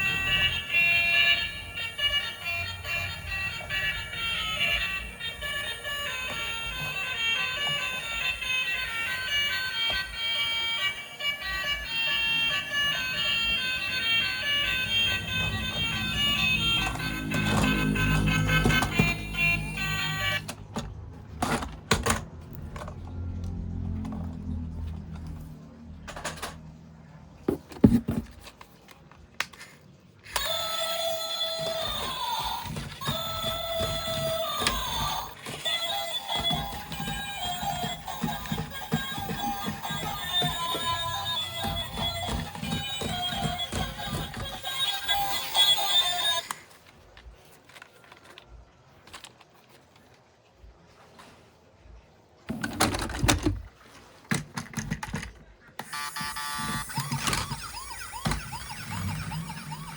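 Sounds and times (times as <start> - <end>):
plastic toys clicking and knocking: 0.0 - 23.2, 27.4 - 50.2, 52.5 - 53.7, 54.3 - 59.9.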